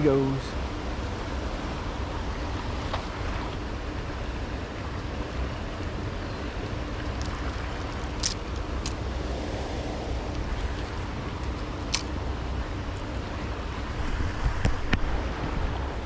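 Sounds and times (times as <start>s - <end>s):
river water rushing: 0.6s - 16.0s
wind buffeting microphone: 0.6s - 16.0s.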